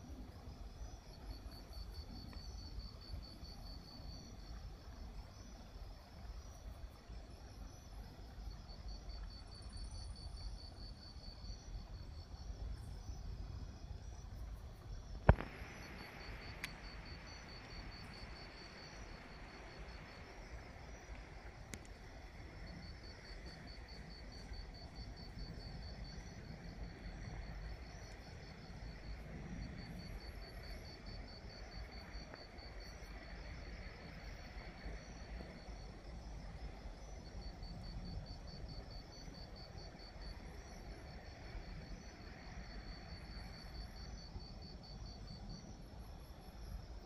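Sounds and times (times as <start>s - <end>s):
insect chirping trills: 0.0s - 47.0s.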